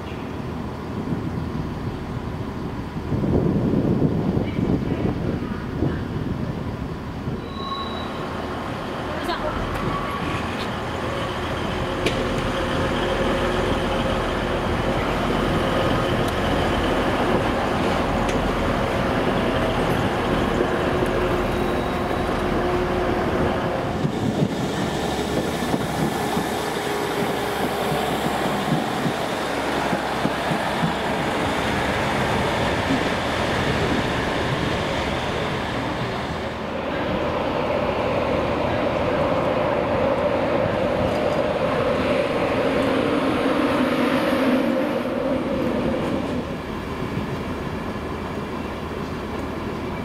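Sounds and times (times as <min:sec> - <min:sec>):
diesel train passing: 0:00.0 - 0:50.0
rail rumble with clicks: 0:00.0 - 0:50.0.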